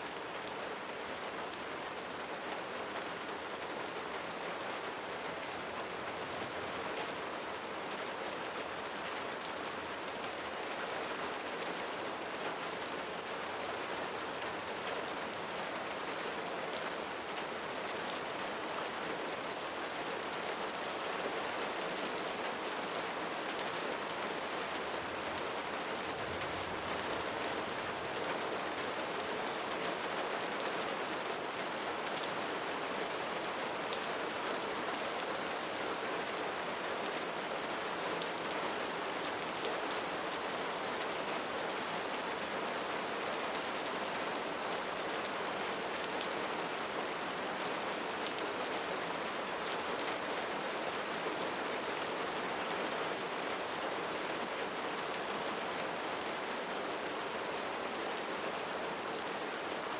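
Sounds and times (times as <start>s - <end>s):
rain falling on leaves: 0.0s - 59.9s
patter of raindrops: 0.1s - 57.5s.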